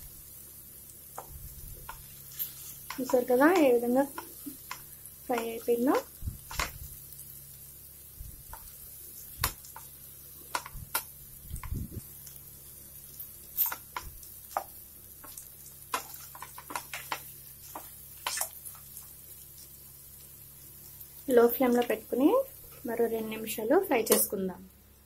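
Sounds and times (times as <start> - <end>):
faint sizzle: 0.0 - 25.0.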